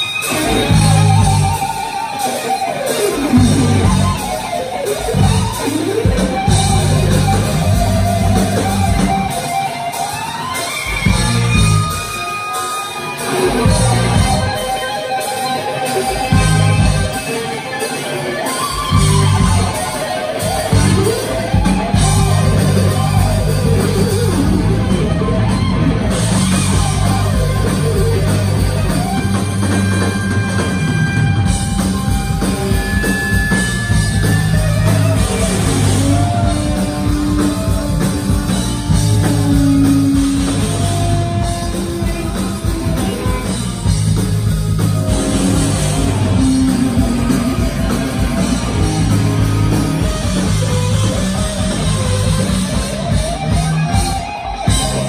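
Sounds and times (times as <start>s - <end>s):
bass guitar: 0.0s - 12.4s, 13.1s - 55.0s
distorted electric guitar: 0.0s - 55.0s
drum kit: 0.0s - 55.0s.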